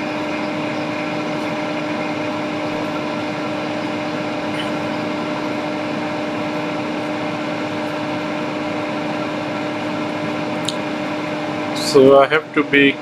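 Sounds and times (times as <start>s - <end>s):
bench tool fan whirring: 0.0s - 13.0s.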